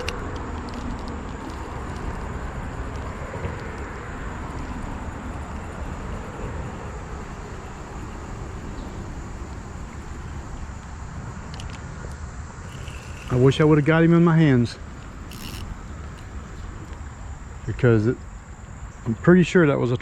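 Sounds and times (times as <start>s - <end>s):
faint clicks: 0.0s - 19.2s.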